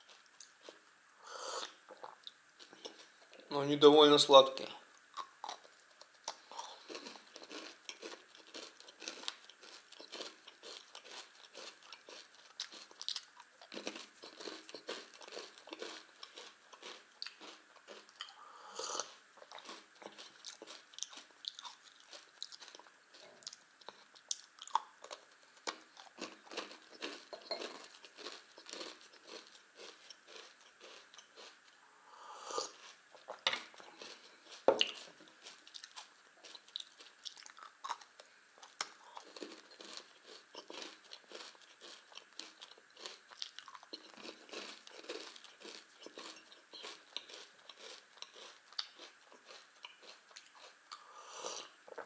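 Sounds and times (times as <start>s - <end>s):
crunching and chewing cereal: 0.0s - 0.9s, 1.5s - 3.6s, 4.6s - 31.8s, 32.5s - 52.0s.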